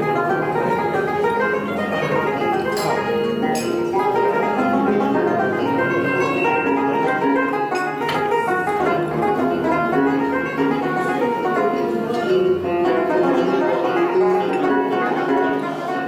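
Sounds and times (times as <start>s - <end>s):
plucked string ensemble: 0.0s - 16.0s.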